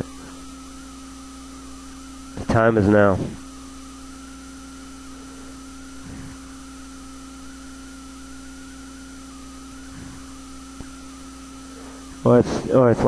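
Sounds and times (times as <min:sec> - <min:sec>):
electrical hum: 0:00.0 - 0:13.0
high wavering whine: 0:00.0 - 0:13.0.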